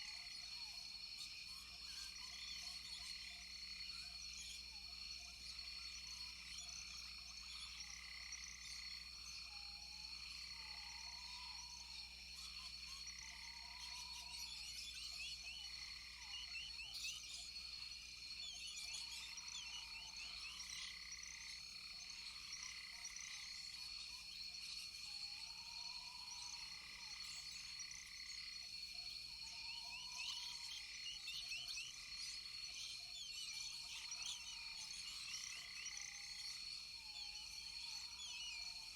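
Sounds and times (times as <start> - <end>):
frogs trilling in chorus: 0.0 - 38.9.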